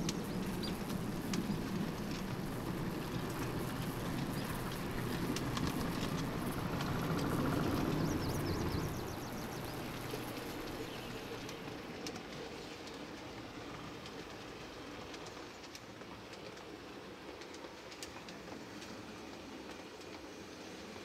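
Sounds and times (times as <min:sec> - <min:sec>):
model train rumbling and clicking: 0:00.0 - 0:21.0.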